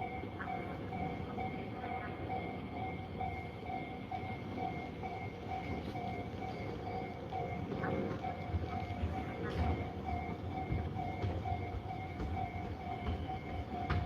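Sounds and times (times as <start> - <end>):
train passing: 0.0 - 14.0.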